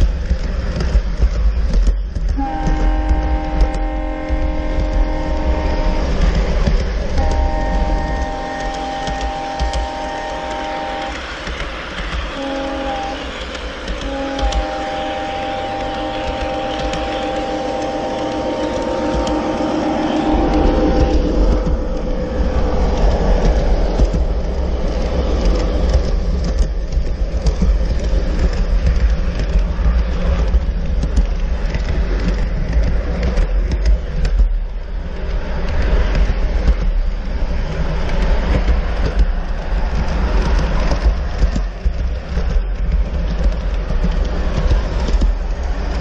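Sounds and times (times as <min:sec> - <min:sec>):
model train wheels rumbling on rails: 0:00.0 - 0:46.0
train wheel clicks: 0:00.0 - 0:46.0.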